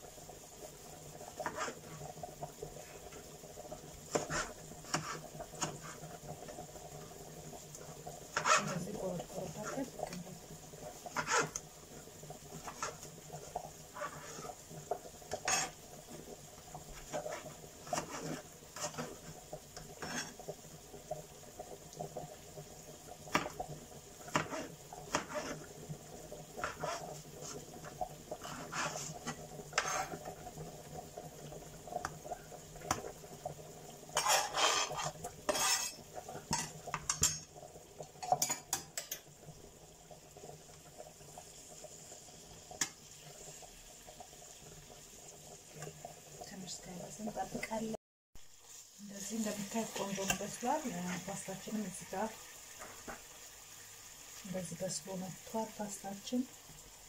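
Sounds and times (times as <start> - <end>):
faint sizzle of vegetables frying: 0.0 - 57.0.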